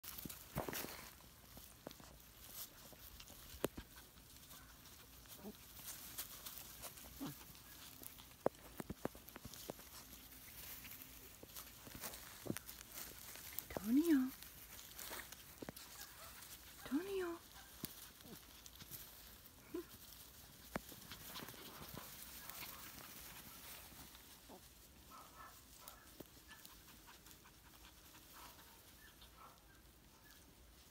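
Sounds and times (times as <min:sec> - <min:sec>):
quiet rustling: 0:00.0 - 0:30.9.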